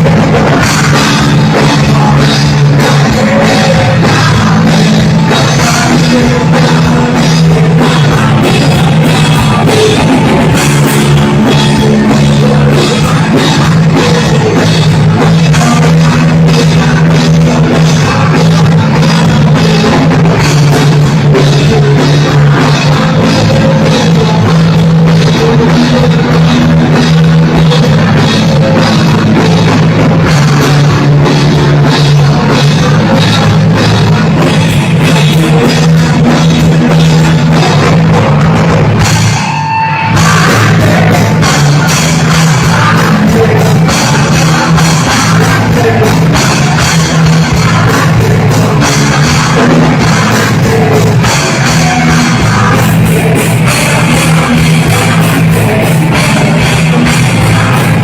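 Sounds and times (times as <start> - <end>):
distorted guitars: 0.0 - 58.0
pounding drum kit: 0.0 - 58.0
punk rock band playing: 0.0 - 58.0
vocals: 0.0 - 58.0.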